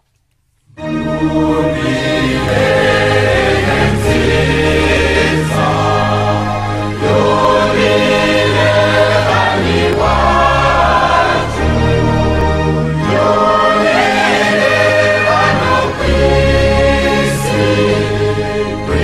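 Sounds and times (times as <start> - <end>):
held bass notes: 0.7 - 19.0
choir singing a hymn: 0.8 - 19.0.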